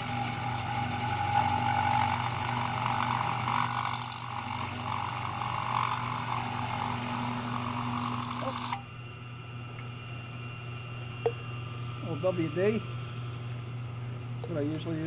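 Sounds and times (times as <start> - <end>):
low steady hum: 0.0 - 15.0
milling machine cutting whine: 0.0 - 15.0.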